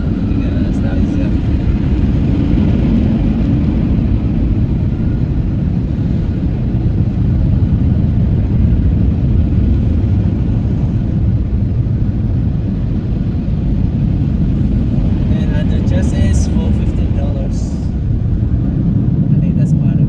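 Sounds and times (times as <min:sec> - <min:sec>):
car wash machinery rumbling: 0:00.0 - 0:20.0.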